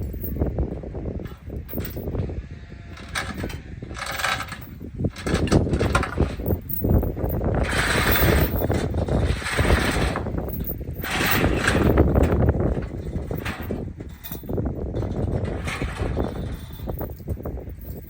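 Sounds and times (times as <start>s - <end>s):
metal mechanism rattling and clanking: 0.0s - 2.3s, 2.9s - 18.0s.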